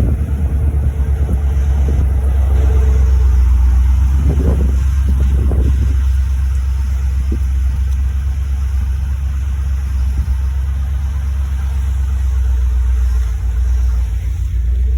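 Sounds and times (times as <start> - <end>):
car engine rumbling: 0.0 - 14.9.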